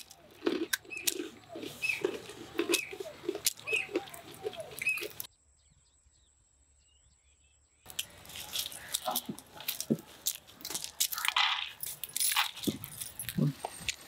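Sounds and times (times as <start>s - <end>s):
peanut shells cracking: 0.0s - 5.3s, 7.9s - 14.0s.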